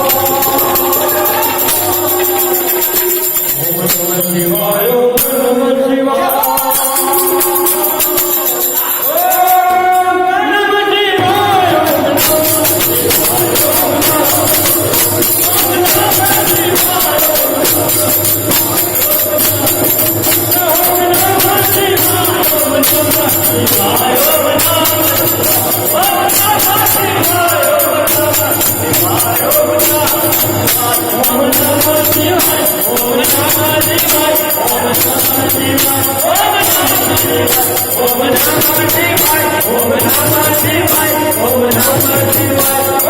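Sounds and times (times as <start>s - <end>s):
jingling hand percussion: 0.0s - 10.3s, 11.1s - 43.0s
person singing: 0.0s - 43.0s.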